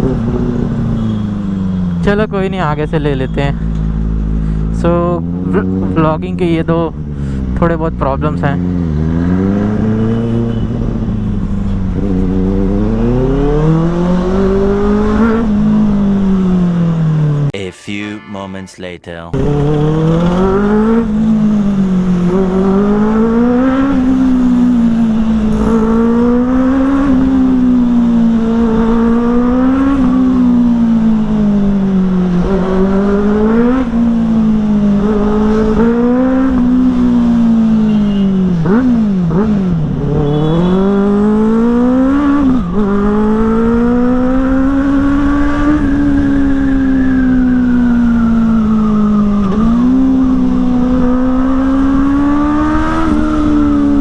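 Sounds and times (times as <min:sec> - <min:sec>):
motorcycle engine revving: 0:00.0 - 0:01.9, 0:03.8 - 0:17.5, 0:19.4 - 0:54.0.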